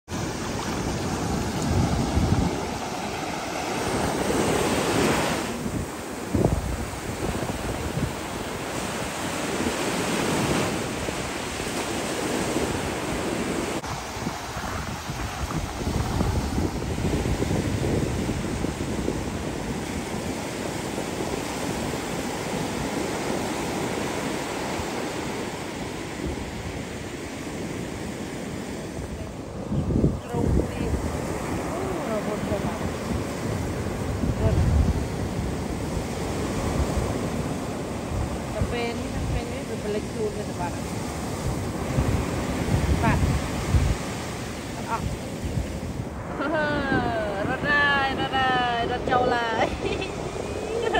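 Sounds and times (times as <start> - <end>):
ocean waves breaking: 0.1 - 50.9
wind rumbling on microphone: 0.1 - 50.9.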